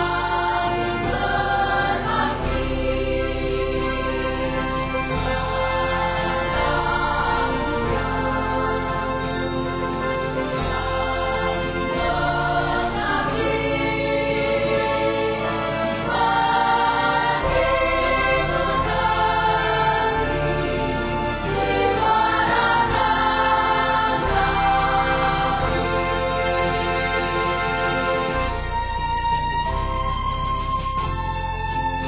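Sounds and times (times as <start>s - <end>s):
choir-like singing voices: 0.0s - 28.6s
low bass: 0.0s - 32.0s.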